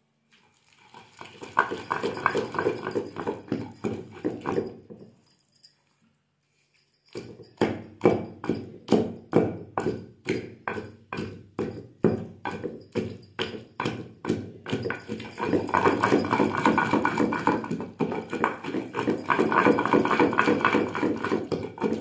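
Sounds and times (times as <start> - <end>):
pestle pounding in stone mortar: 1.6 - 4.8, 7.1 - 22.0.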